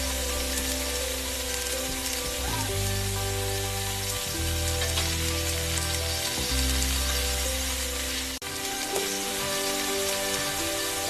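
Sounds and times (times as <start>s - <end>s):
background music with low notes: 0.0s - 11.0s
oil sizzling in a wok: 0.0s - 11.0s.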